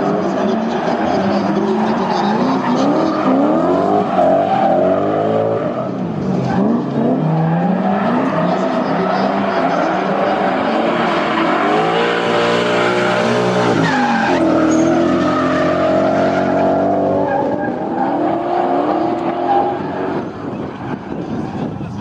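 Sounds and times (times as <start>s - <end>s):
tyres screeching: 0.0s - 21.2s
car engines revving high: 0.0s - 22.0s.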